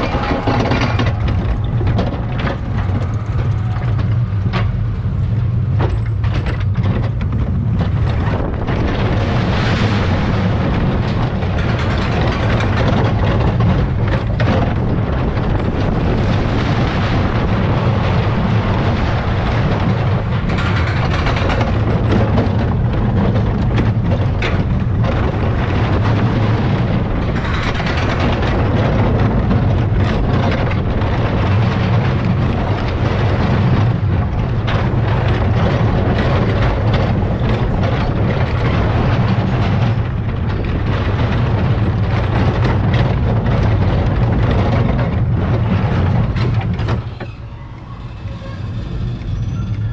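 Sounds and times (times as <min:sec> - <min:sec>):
rattles and clicks: 0:00.0 - 0:49.9
rushing noise: 0:00.0 - 0:49.9
spinning ride low rumble: 0:00.0 - 0:49.9.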